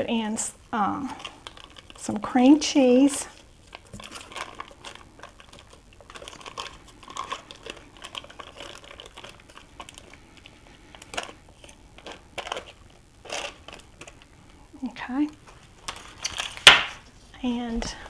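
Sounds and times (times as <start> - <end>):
foil wrapper crinkling: 0.7 - 17.2.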